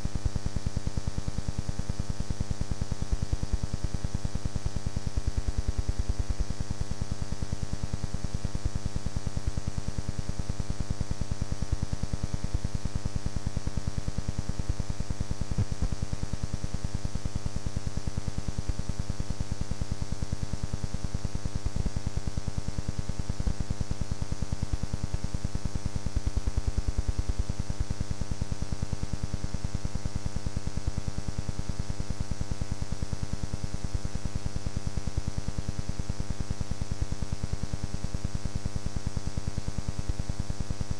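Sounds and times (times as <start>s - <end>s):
mains hum: 0.0s - 40.9s.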